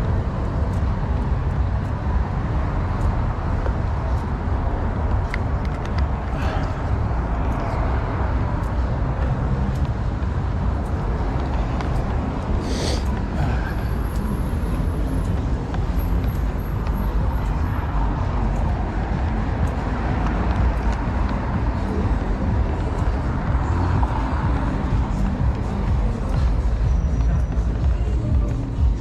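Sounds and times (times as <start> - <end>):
low rumble of passing traffic: 0.0 - 29.0.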